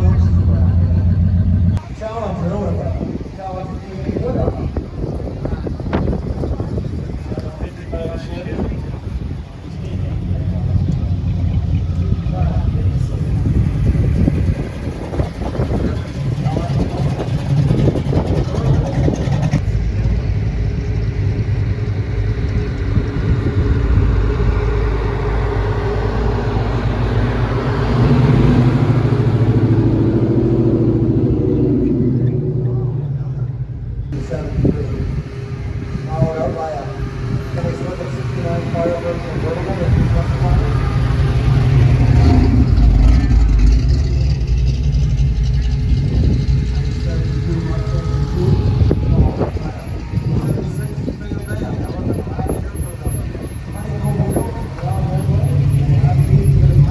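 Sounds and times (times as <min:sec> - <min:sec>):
cars driving past: 0:00.0 - 0:56.9
loud car engine: 0:00.0 - 0:56.9.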